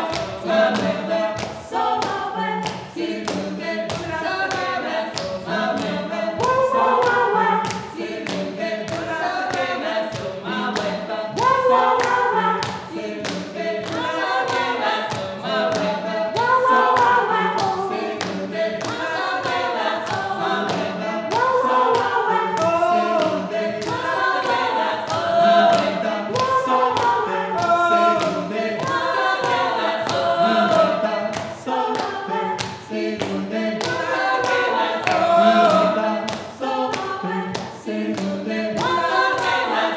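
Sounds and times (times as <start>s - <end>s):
a cappella group singing: 0.0s - 39.9s.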